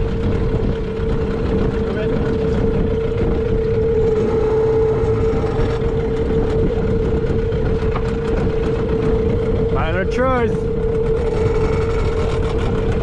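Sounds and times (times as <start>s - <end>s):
small boat motor running: 0.0s - 13.0s.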